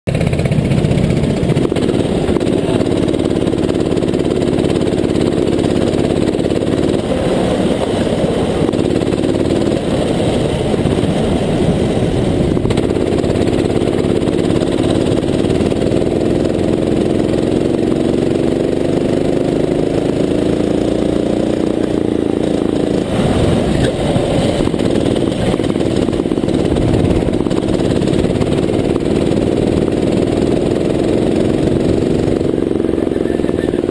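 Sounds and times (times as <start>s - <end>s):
go-kart engine revving: 0.1s - 33.9s.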